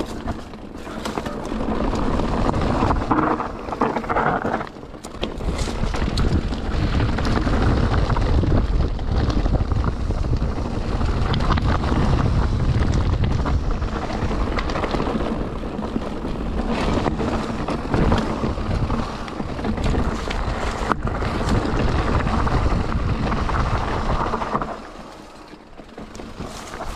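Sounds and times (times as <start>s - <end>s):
wind buffeting microphone: 0.0s - 25.0s
bike tyres clicking and knocking: 0.0s - 26.9s.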